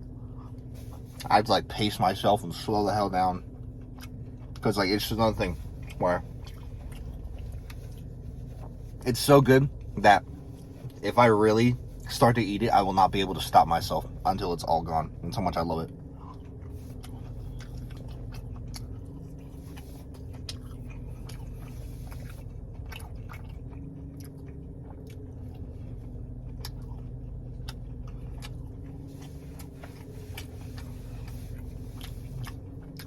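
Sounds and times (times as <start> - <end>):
man chewing crunchy food: 0.0 - 33.0
steady low hum: 0.0 - 33.0.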